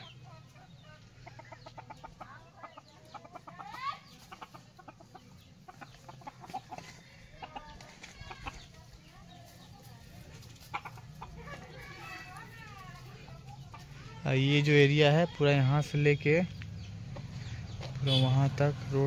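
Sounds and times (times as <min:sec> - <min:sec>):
chickens clucking rapidly: 0:00.0 - 0:18.2.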